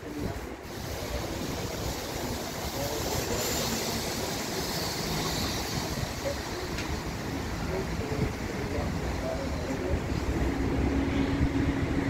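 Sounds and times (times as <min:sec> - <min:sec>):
hiss: 0:00.0 - 0:09.8.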